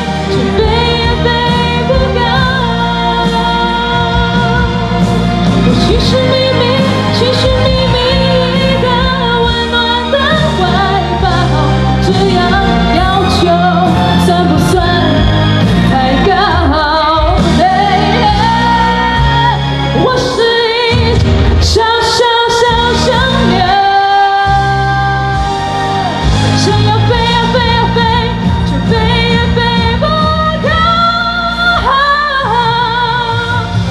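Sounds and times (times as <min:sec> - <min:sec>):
instrumental accompaniment: 0:00.0 - 0:33.9
woman singing into microphone: 0:00.0 - 0:33.9.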